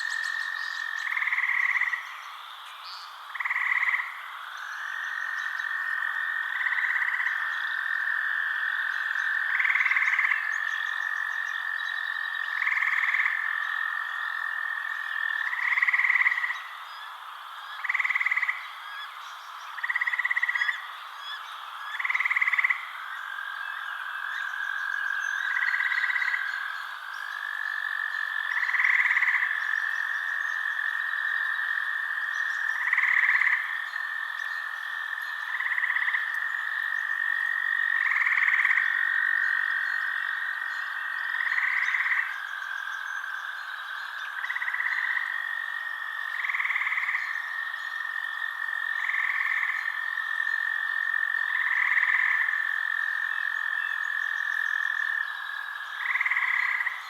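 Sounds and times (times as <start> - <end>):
frogs trilling: 0.0 - 57.0
louder frog calls: 0.0 - 57.0.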